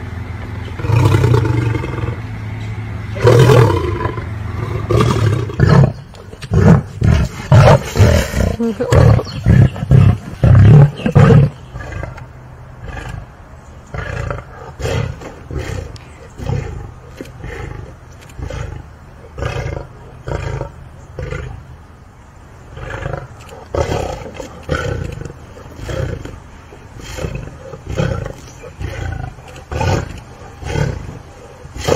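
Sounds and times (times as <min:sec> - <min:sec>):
lioness snarling and growling: 0:00.7 - 0:02.3, 0:03.2 - 0:21.6, 0:22.7 - 0:31.9
lioness roaring: 0:00.8 - 0:02.3, 0:03.2 - 0:12.2, 0:13.9 - 0:21.6, 0:22.7 - 0:31.9.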